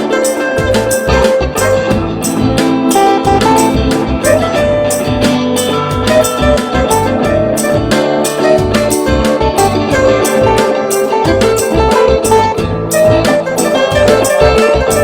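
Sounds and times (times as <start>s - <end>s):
drum kit beat: 0.0s - 15.0s
electric guitar notes: 0.0s - 15.0s.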